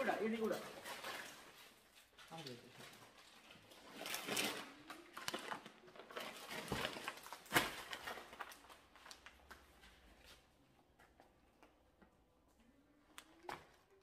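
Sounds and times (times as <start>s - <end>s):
plastic bags rustling: 0.0s - 11.9s.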